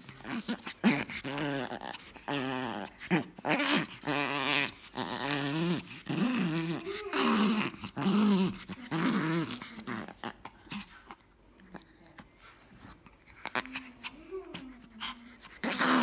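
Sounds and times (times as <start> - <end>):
dog play-growling: 0.0 - 16.0.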